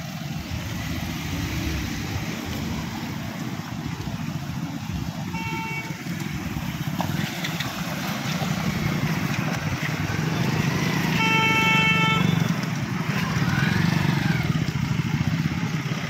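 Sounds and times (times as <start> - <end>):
car and motorcycle engines passing: 0.0 - 16.0.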